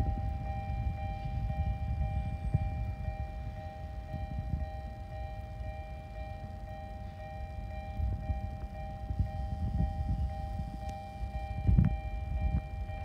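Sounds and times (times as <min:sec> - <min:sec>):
level crossing bell ringing: 0:00.0 - 0:13.0.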